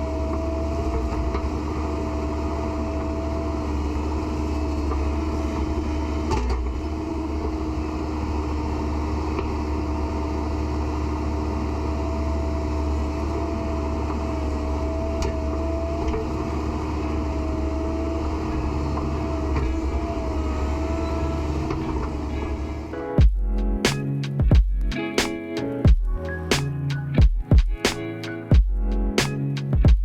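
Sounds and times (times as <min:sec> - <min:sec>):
excavator diesel engine running: 0:00.0 - 0:29.8.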